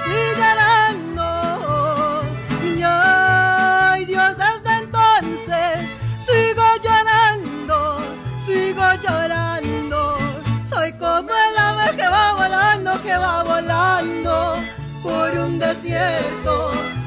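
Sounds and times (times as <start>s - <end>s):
mariachi band playing: 0.0s - 17.0s
woman singing with vibrato: 0.0s - 17.0s.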